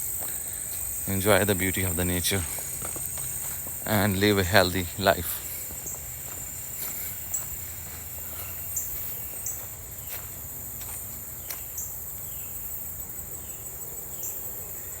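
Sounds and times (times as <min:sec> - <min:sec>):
cricket chirps: 0:00.0 - 0:15.0
insects droning: 0:00.0 - 0:15.0.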